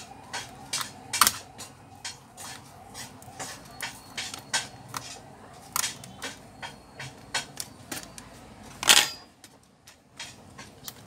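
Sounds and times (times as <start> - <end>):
hand tool being handled: 0.0 - 11.0.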